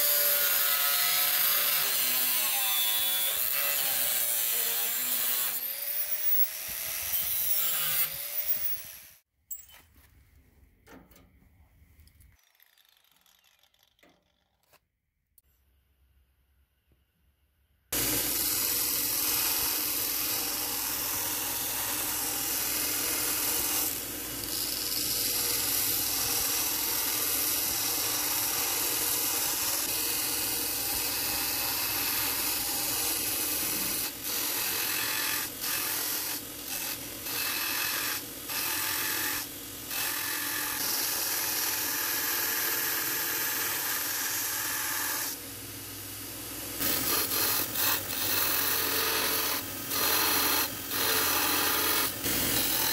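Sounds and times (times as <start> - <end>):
belt grinder grinding steel: 0.0 - 9.6, 12.1 - 14.8, 18.0 - 45.4, 46.8 - 52.9.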